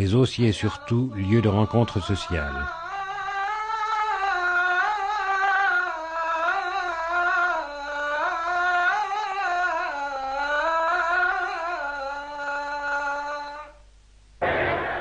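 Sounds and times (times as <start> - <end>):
person chanting religious chant: 0.0 - 13.8.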